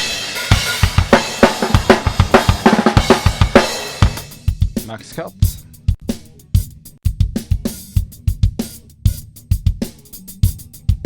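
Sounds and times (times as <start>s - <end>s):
drum kit playing busy beat: 0.0s - 11.0s.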